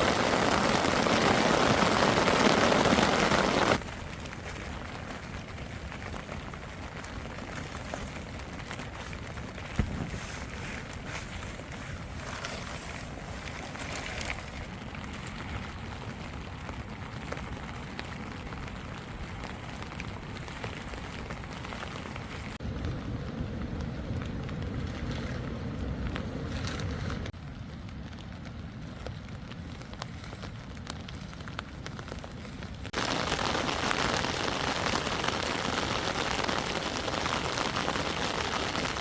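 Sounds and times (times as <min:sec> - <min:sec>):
rain falling on a tent: 0:00.0 - 0:39.0.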